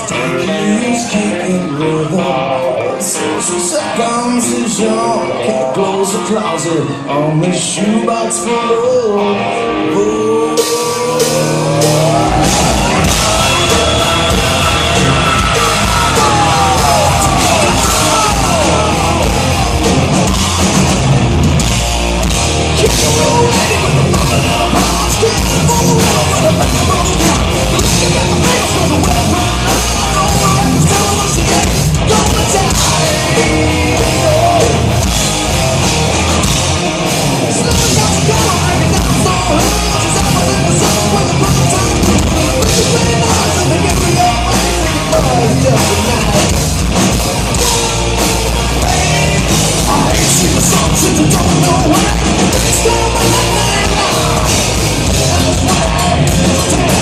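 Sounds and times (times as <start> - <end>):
sung or shouted vocals: 0.0 - 21.0, 22.6 - 35.2, 37.3 - 57.0
distorted electric guitars: 0.0 - 57.0
driving drum kit: 10.6 - 57.0.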